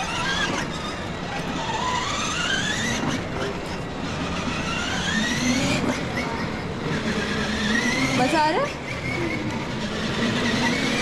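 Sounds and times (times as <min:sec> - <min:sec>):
electric toy truck whine: 0:00.0 - 0:11.0.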